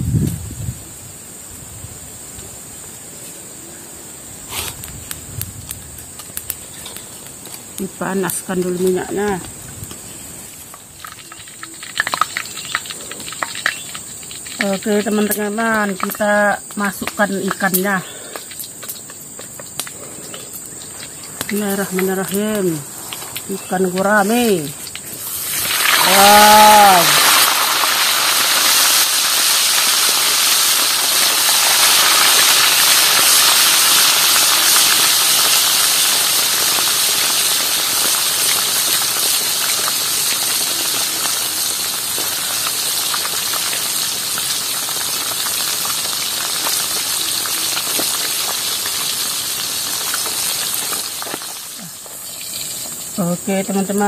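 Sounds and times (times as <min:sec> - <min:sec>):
fish sizzling in hot oil: 0:04.2 - 0:54.0.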